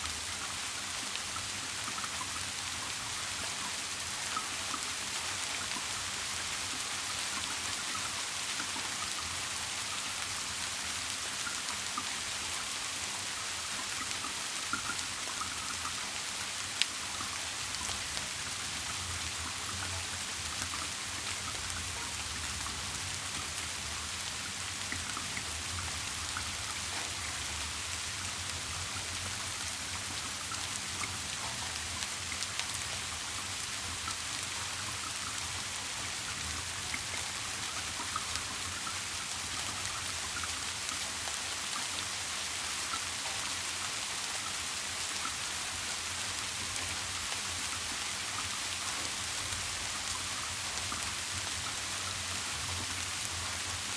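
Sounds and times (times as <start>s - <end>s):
rain drops ticking: 0.0s - 53.9s
steady rain hiss: 0.0s - 53.9s.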